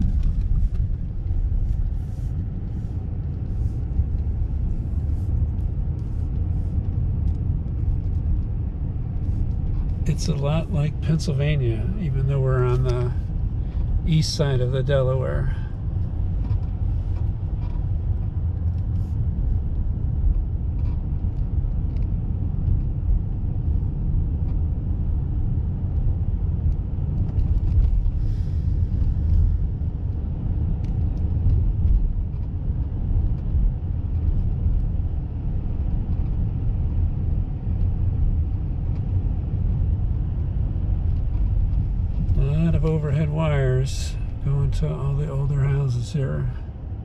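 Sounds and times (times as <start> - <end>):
car driving low rumble: 0.0 - 47.0.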